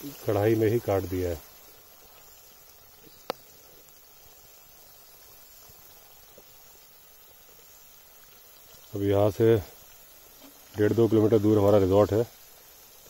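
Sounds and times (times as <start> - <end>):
gravy simmering: 0.0 - 13.0.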